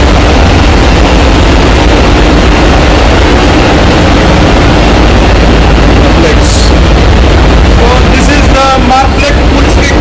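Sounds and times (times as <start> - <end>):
engine room machinery rumble: 0.0 - 10.0
steady hum: 0.0 - 10.0.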